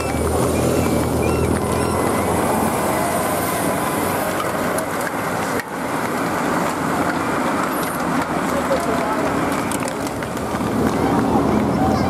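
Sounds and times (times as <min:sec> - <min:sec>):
vehicles passing on road: 0:00.0 - 0:12.0.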